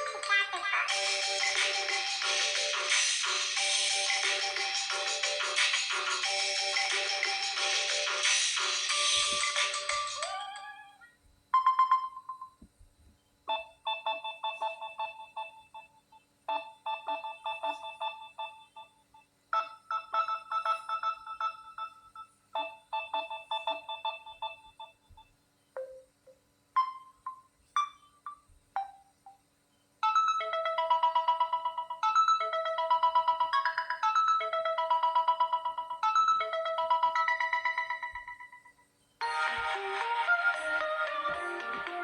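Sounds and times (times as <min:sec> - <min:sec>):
synthesized ringtone melodies: 0:00.0 - 0:12.6, 0:13.5 - 0:25.2, 0:25.8 - 0:29.4, 0:30.0 - 0:42.0.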